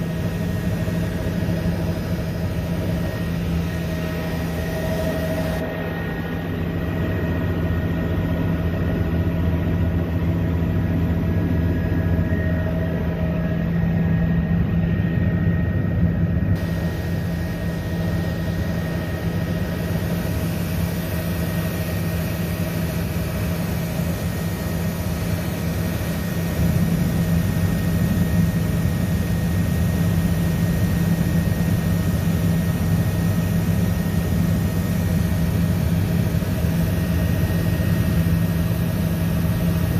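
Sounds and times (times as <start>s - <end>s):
thin high whine: 0.0s - 8.8s, 16.6s - 39.9s
helicopter engine and rotor drone: 0.0s - 39.9s.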